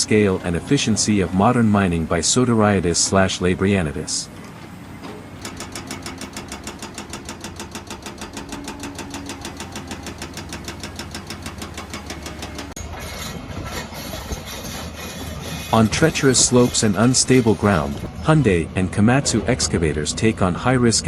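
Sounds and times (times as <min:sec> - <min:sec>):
diesel engine low hum with clatter: 0:00.0 - 0:21.0
rough noisy machine sound: 0:00.0 - 0:21.0.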